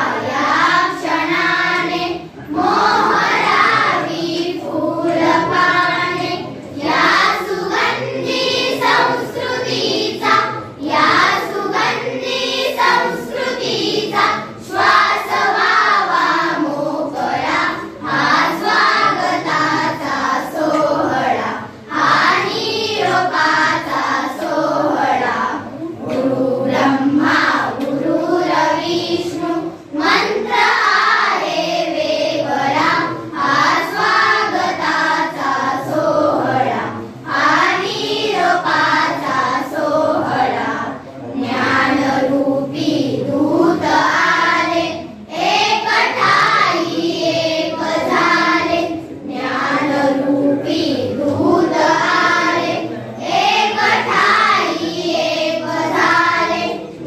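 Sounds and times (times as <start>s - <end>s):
girls choir singing: 0.0s - 57.0s.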